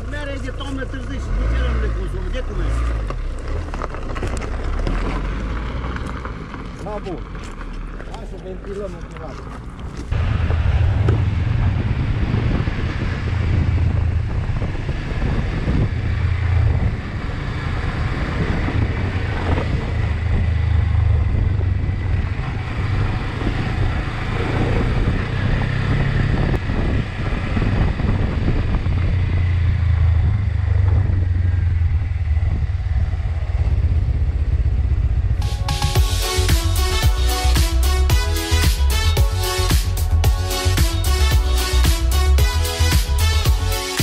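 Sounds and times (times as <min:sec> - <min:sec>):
motorcycle engine running: 0:00.0 - 0:44.0
wind and road noise: 0:00.0 - 0:44.0.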